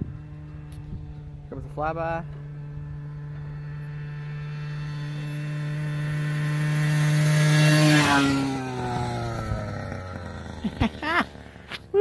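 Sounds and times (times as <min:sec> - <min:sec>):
two-stroke engine passing by: 0:00.0 - 0:12.0.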